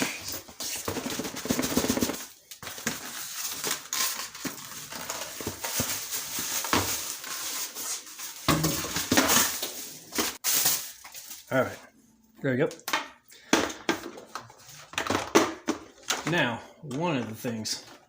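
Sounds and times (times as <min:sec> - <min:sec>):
plastic and cardboard rustling: 0:00.0 - 0:11.8, 0:13.8 - 0:18.0.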